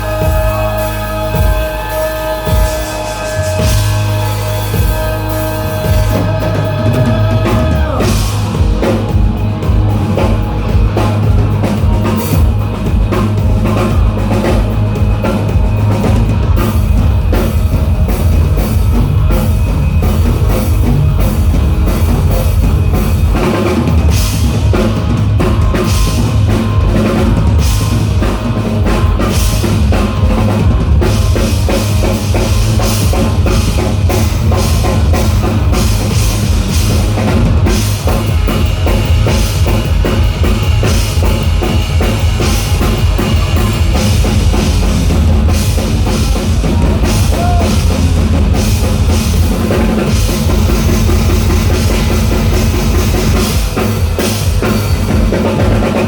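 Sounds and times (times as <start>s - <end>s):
bass guitar: 0.0s - 56.0s
drum kit: 0.0s - 56.0s
rock band playing loudly: 0.0s - 56.0s.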